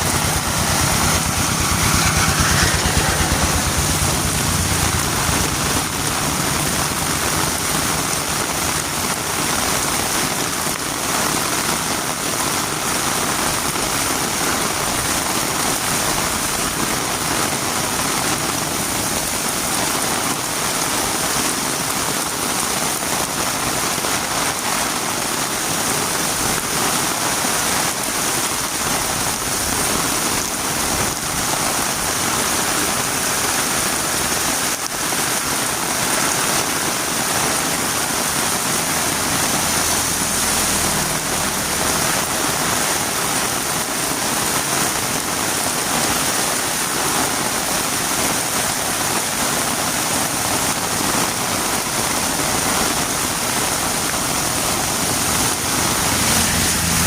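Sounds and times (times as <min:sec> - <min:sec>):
heavy rain on a road: 0:00.0 - 0:57.0.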